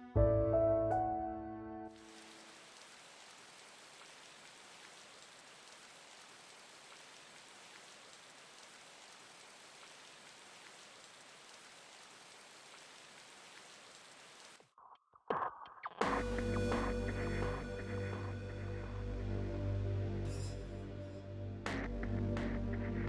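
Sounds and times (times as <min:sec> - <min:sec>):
faint steady rain: 0:01.8 - 0:14.8, 0:16.0 - 0:23.0.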